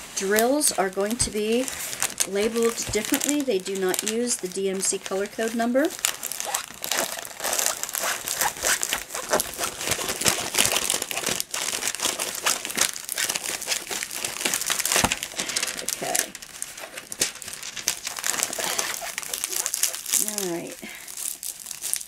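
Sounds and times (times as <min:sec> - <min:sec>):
stiff paper crinkling: 0:00.0 - 0:22.0.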